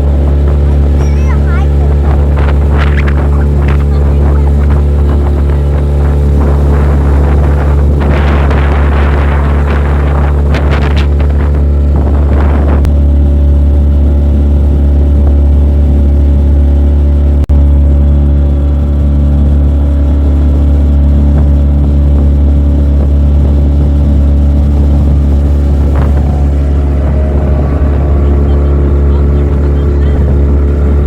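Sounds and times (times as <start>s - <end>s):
motorboat engine droning: 0.0s - 31.0s.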